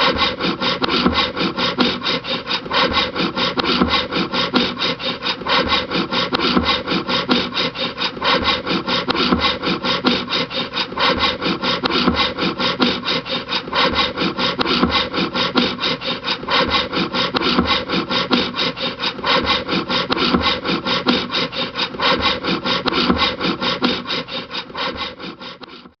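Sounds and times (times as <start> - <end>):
handsaw cutting wood: 0.0 - 26.0.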